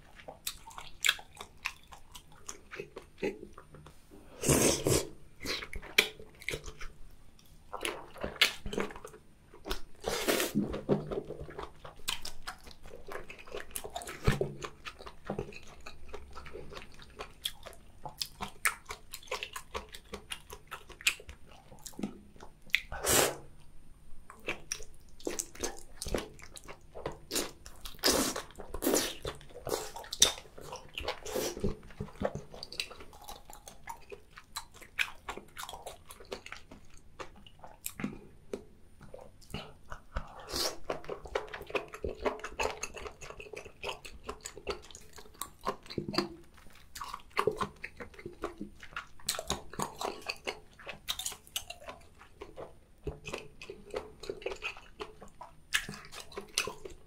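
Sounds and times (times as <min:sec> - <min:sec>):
wet chewing sounds: 0:00.0 - 0:04.0, 0:04.6 - 0:23.7, 0:24.3 - 0:57.0
bites and smacks: 0:07.7 - 0:22.9, 0:24.3 - 0:57.0.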